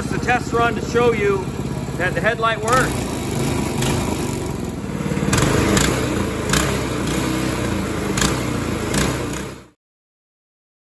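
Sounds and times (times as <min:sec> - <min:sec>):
mini bike engine running: 0:00.0 - 0:09.8.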